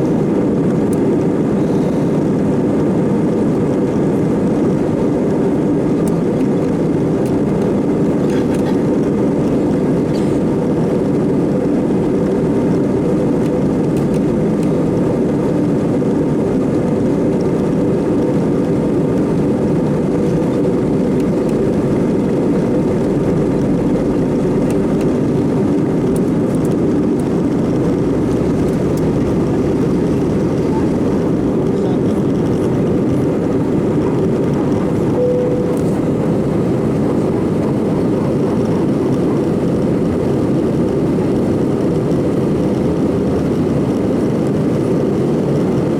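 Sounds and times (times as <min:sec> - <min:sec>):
airplane cabin engine drone: 0:00.0 - 0:45.9.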